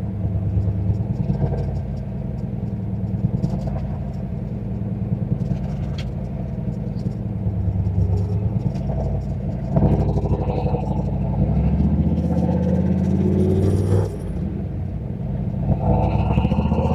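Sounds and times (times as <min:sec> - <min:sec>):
car engine cruising: 0:00.0 - 0:16.9.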